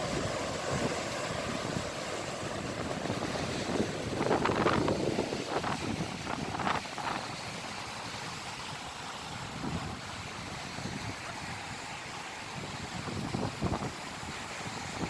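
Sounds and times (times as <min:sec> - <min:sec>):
ocean surf washing on shore: 0:00.0 - 0:15.0
wind rumbling on microphone: 0:00.0 - 0:15.0.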